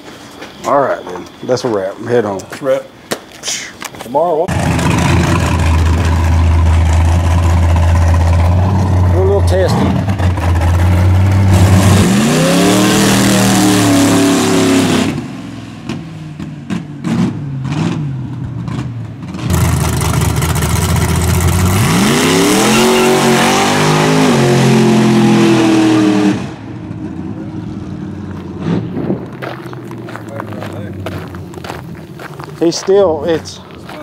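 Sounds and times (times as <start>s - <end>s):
car engine revving at full throttle: 4.5s - 32.2s.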